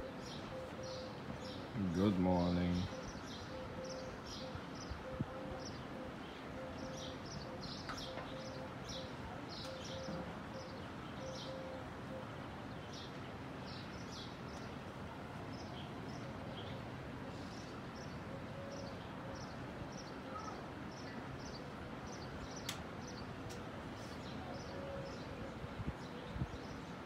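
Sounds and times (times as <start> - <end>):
small birds chirping: 0.0 - 5.0, 5.6 - 11.6, 12.7 - 27.0
outdoor background hum: 0.0 - 27.0.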